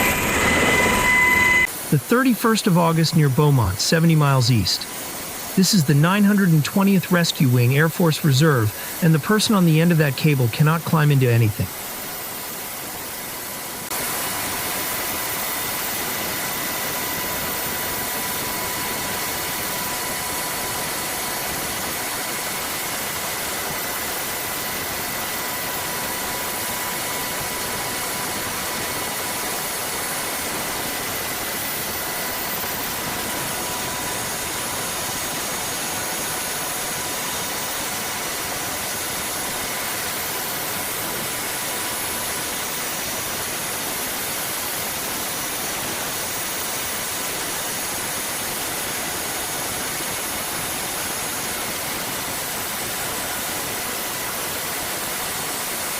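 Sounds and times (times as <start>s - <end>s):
thin steady whine: 0.0s - 55.5s
helicopter turbine and rotor noise: 0.0s - 55.9s.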